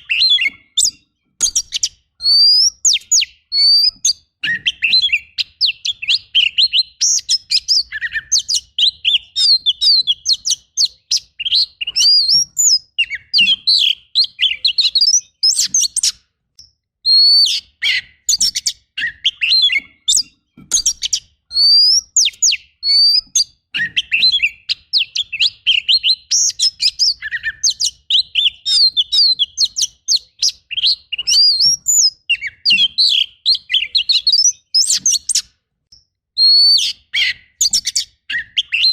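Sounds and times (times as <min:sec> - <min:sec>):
bird singing varied whistled song: 0:00.0 - 0:38.9.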